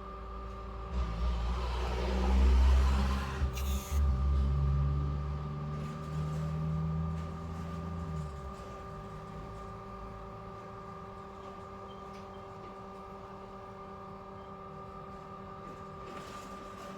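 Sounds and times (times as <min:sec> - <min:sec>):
machine motor rumble and whine: 0:00.0 - 0:16.9.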